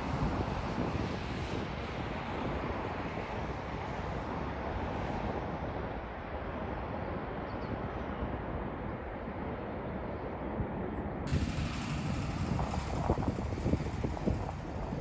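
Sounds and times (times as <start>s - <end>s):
jet airliner rumble: 0.0s - 15.0s
wind buffeting microphone: 0.0s - 15.0s.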